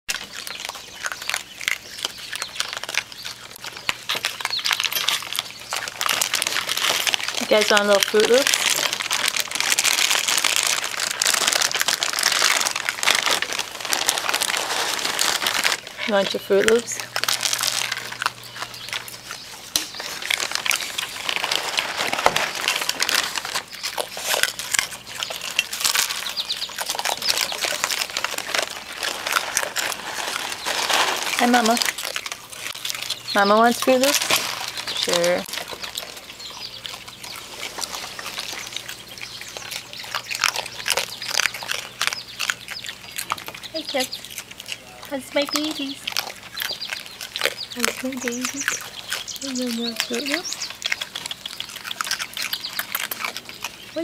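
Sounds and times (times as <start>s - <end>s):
animals crunching dry food: 0.1s - 54.0s
paws clicking on steel bowls: 0.1s - 54.0s.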